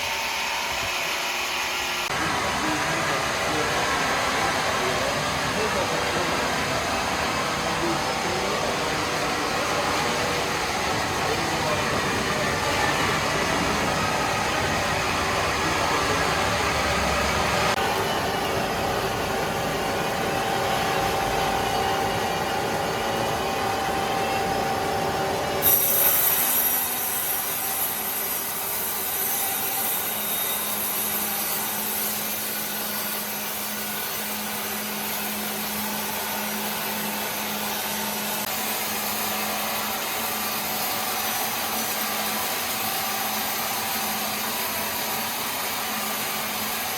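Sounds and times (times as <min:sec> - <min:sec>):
power saw cutting wood: 0:00.0 - 0:46.9
steady machine noise: 0:00.0 - 0:46.9.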